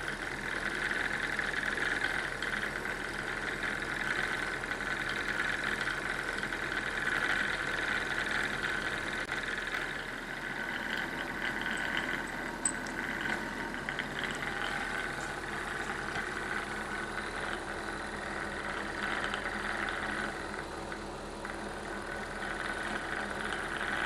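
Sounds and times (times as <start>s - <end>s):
engine buzzing rattle: 0.0s - 24.0s.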